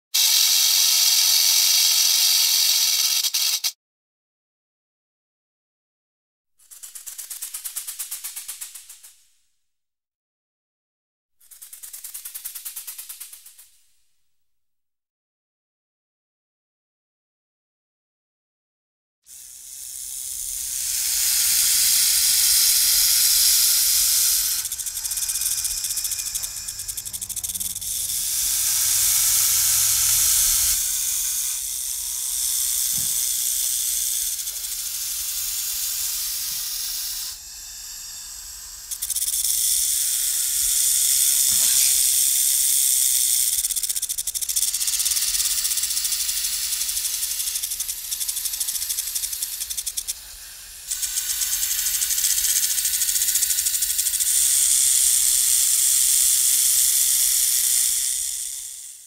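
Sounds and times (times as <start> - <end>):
rattlesnake tail rattle buzzing: 0.2 - 3.8, 6.6 - 9.2, 11.4 - 13.8, 19.3 - 59.0.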